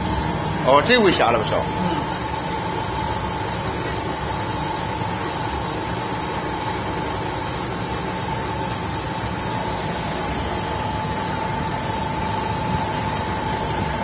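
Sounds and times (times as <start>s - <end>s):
steady whine: 0.0s - 14.0s
vibrating sieve hum and rattle: 0.0s - 14.0s.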